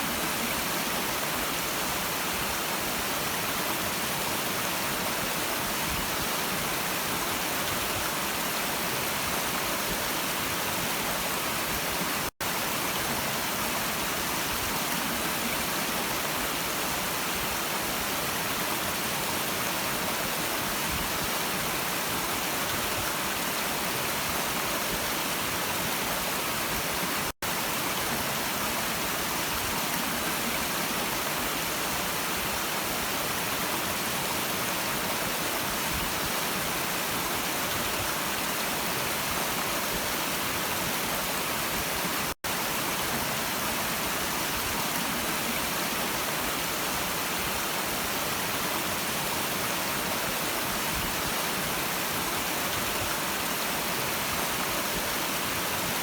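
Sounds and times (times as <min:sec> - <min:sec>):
brook water rushing: 0:00.0 - 0:56.0.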